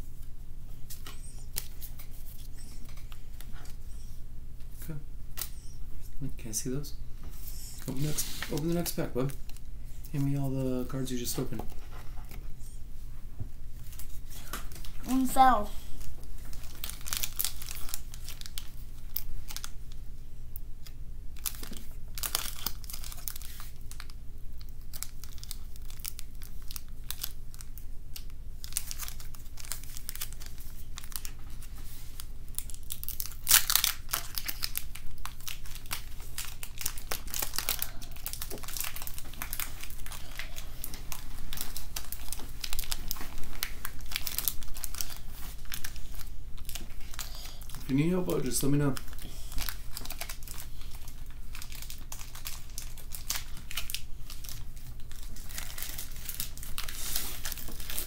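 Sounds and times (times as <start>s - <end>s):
foil wrapper crinkling and tearing: 0.8s - 4.1s, 7.4s - 11.5s, 13.8s - 20.1s, 20.8s - 58.0s.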